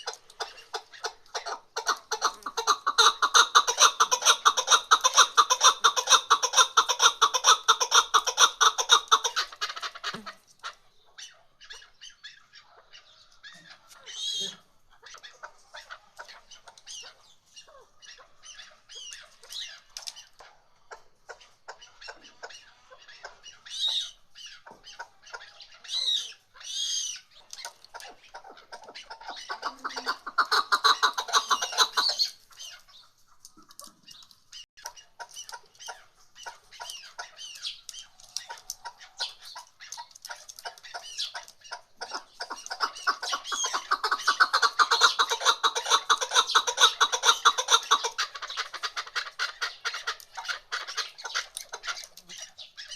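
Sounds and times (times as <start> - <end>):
partridges clucking calls: 0.0 - 52.9.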